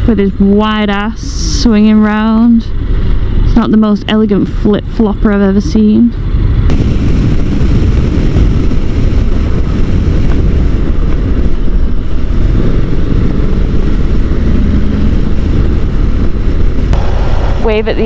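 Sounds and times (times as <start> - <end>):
motorcycle engine rumble: 0.0 - 18.0
wind noise on microphone: 0.0 - 18.0.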